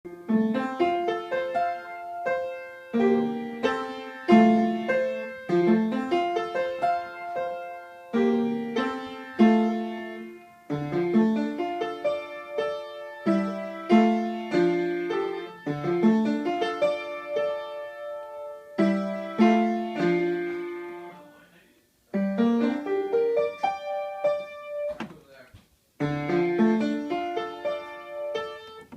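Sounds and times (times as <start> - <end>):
solo piano melody: 0.1 - 21.4, 22.1 - 25.1, 26.0 - 28.9.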